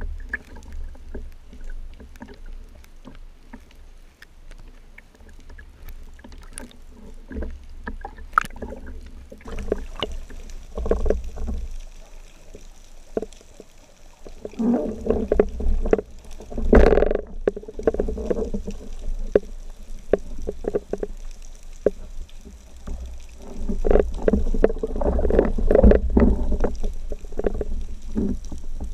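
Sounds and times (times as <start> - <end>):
rush of water: 0.0 - 28.9
water sloshing and bubbling: 0.0 - 28.9.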